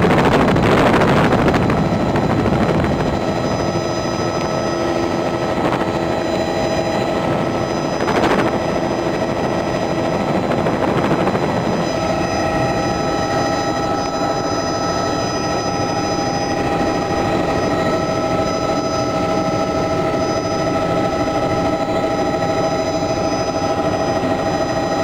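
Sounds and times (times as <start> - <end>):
helicopter turbine whine: 0.0 - 25.0
rotor blades beating: 0.0 - 25.0.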